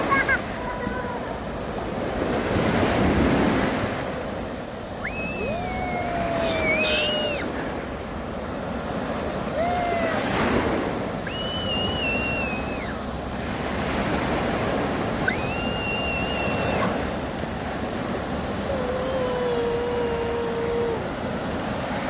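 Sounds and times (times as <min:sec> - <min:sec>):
sea waves washing onto shore: 0:00.0 - 0:22.0.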